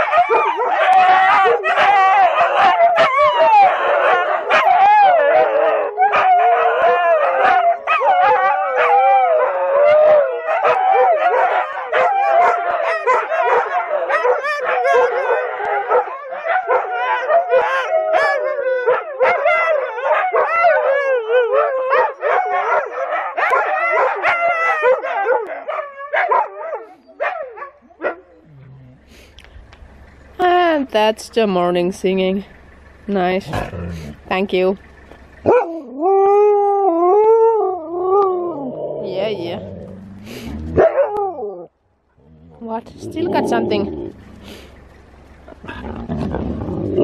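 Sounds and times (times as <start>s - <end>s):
dogs howling together: 0.0s - 29.0s, 35.4s - 44.4s, 45.5s - 47.0s.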